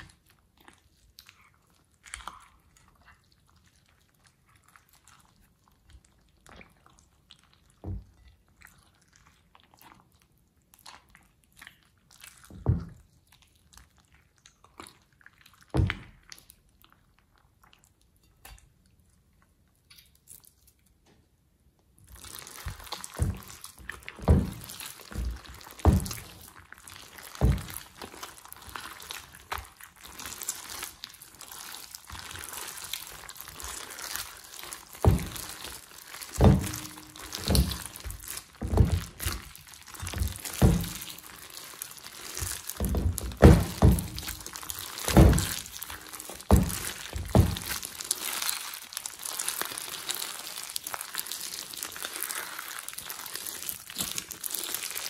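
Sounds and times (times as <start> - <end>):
fine steady crackle: 0.0 - 55.0.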